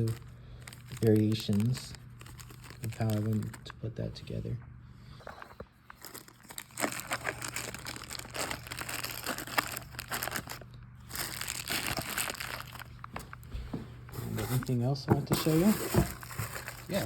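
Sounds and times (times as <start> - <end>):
packaging crinkling and rustling: 0.0 - 3.8, 5.2 - 17.0.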